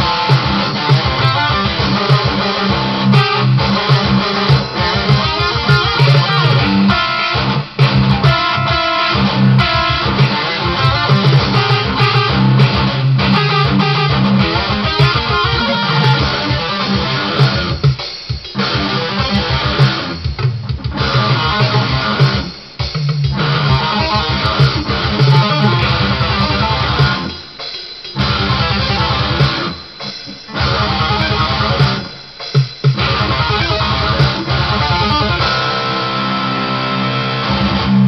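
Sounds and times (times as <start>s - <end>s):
electric guitar metal riff: 0.0s - 38.0s.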